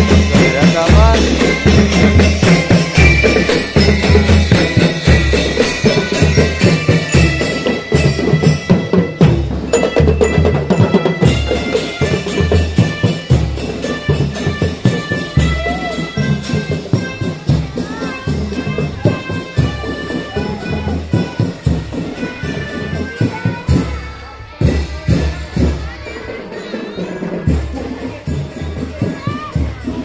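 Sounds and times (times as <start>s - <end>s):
drum percussion music: 0.0s - 30.0s.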